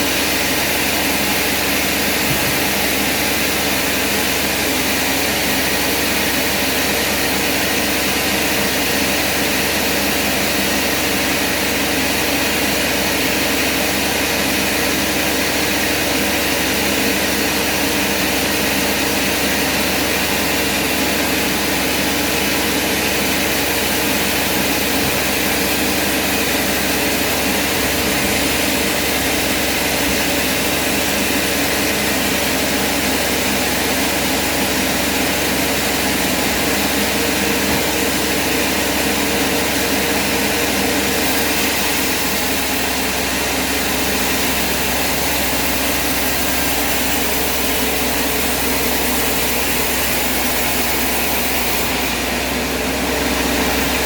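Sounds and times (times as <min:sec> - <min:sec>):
heavy machinery droning: 0:00.0 - 0:54.0.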